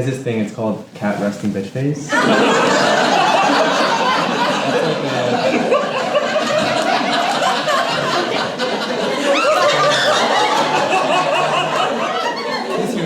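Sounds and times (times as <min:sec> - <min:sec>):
audience laughing: 0:02.1 - 0:13.0.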